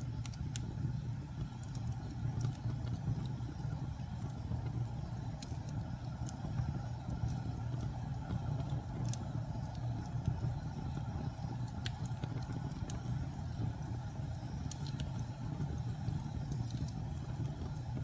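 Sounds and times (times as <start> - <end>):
fire flame rumble: 0.0 - 18.0
wood fire crackles and pops: 0.0 - 18.0.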